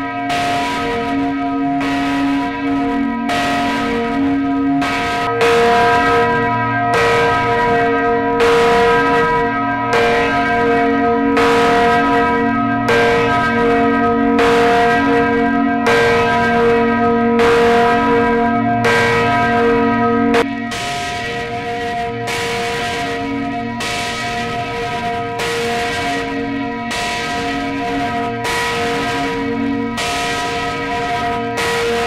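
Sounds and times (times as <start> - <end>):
church bell tolling: 0.0 - 32.0.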